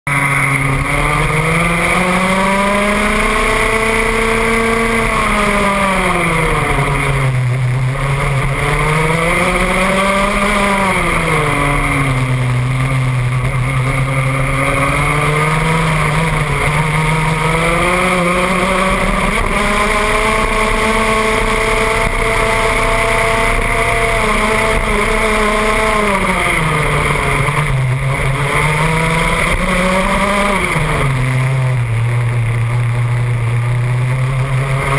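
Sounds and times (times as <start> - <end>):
kart engine under load: 0.1 - 34.9
steady rushing noise: 0.1 - 34.9.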